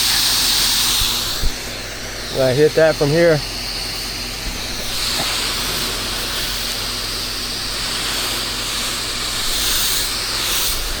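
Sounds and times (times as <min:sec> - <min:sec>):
pump motor humming: 0:00.0 - 0:11.0
spray wand hissing: 0:00.0 - 0:11.0.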